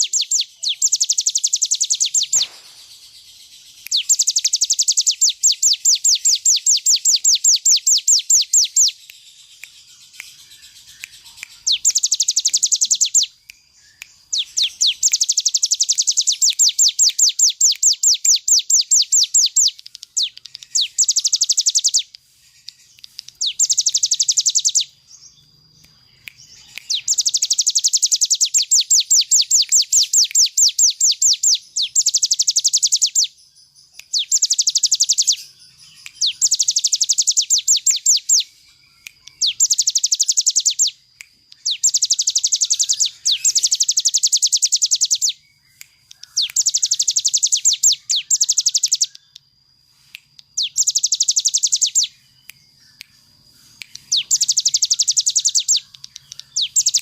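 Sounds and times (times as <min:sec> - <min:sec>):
bird singing rapid trills: 0:00.0 - 0:49.6, 0:50.4 - 0:57.0.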